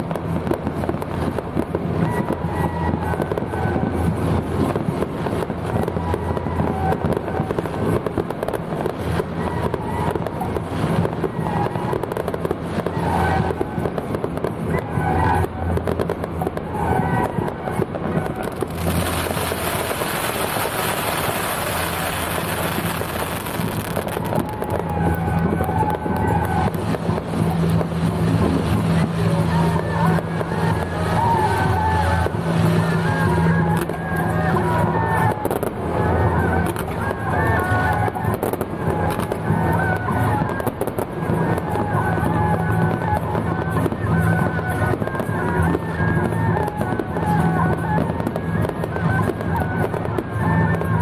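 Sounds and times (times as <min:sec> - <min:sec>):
firecrackers crackling: 0:00.0 - 0:51.0.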